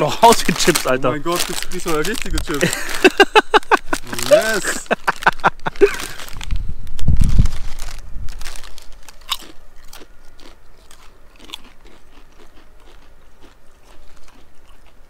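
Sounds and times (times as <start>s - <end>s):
crunchy chips bitten and chewed: 0.1s - 3.0s, 3.8s - 15.0s.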